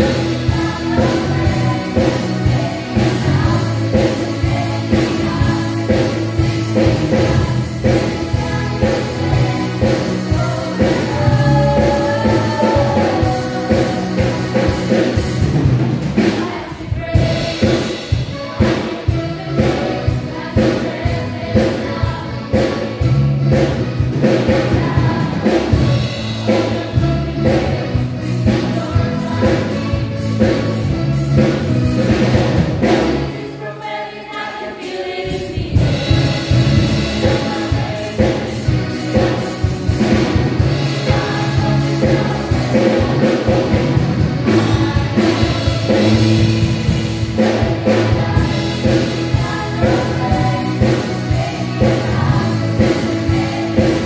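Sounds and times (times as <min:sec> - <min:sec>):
choir singing gospel song: 0:00.0 - 0:54.0
instrumental accompaniment with beat: 0:00.0 - 0:54.0.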